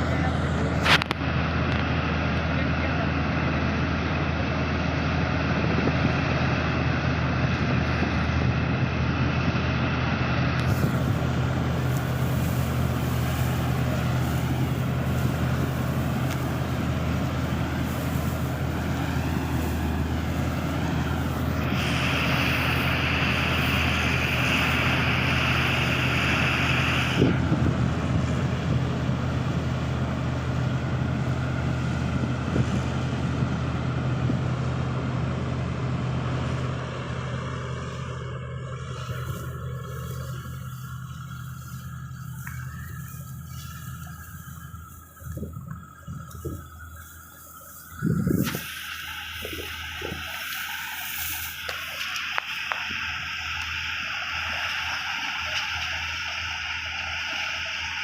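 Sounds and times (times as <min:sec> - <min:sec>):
harvester engine humming: 0:00.0 - 0:58.0
harvesting noise: 0:00.0 - 0:58.0
high machine whine: 0:00.0 - 0:58.0.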